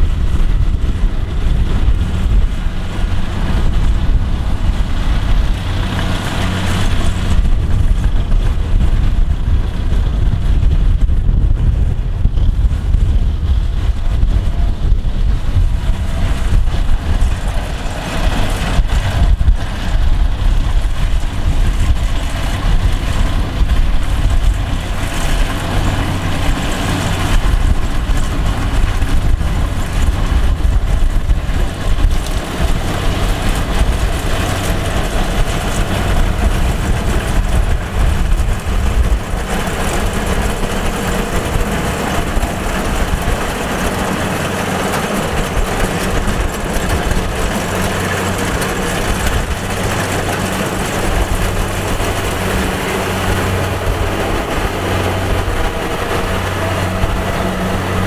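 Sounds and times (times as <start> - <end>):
combine harvester diesel engine: 0.0 - 58.0.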